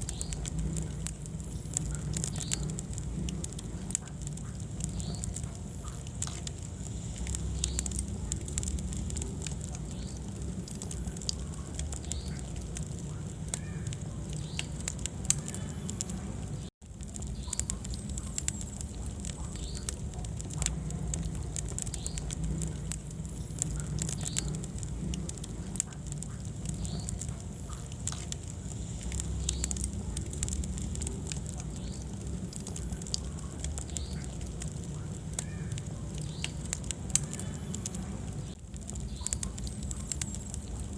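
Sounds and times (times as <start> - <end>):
roar of flames: 0.0 - 40.9
wood fire crackling and popping: 0.0 - 40.9.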